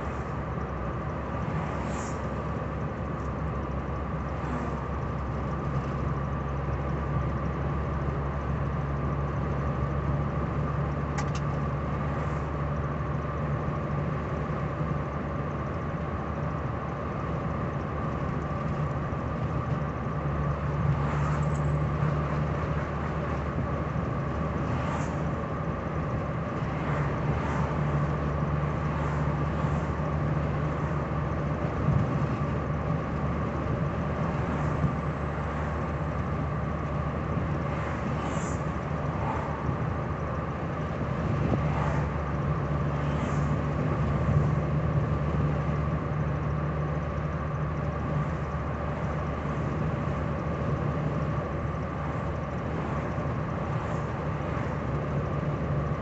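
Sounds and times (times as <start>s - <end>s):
car engine hum: 0.0s - 56.0s.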